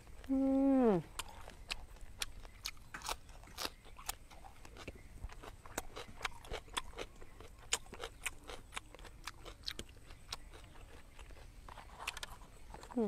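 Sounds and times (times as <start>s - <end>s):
person chewing food: 1.0s - 13.0s.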